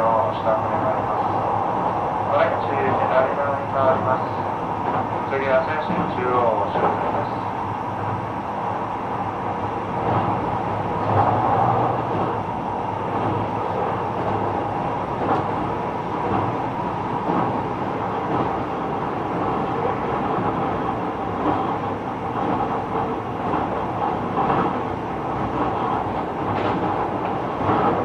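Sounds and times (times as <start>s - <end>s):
train wheels on rail: 0.0s - 28.0s.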